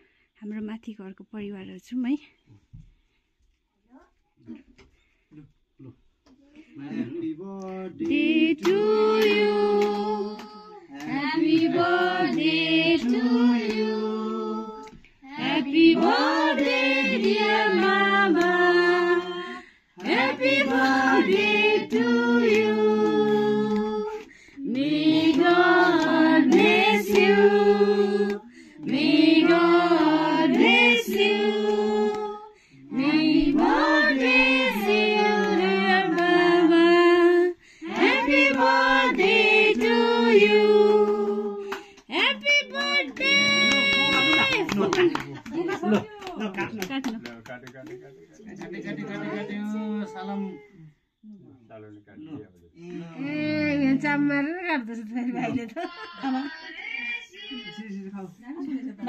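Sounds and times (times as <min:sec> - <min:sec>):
family singing birthday song: 0:04.4 - 0:59.0.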